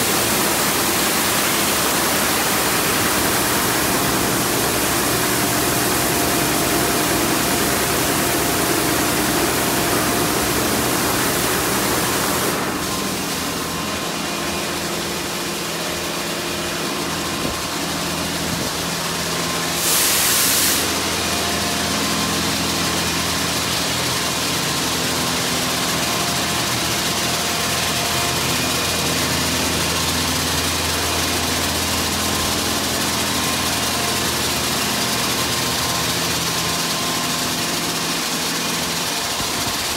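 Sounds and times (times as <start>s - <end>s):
high-pressure water spray hissing: 0.0s - 15.0s, 17.4s - 39.9s
pumps and motors humming: 0.0s - 39.9s.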